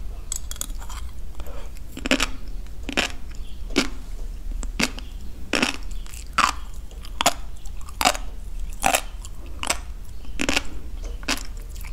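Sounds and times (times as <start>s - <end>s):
crunchy chewing: 0.2s - 11.9s.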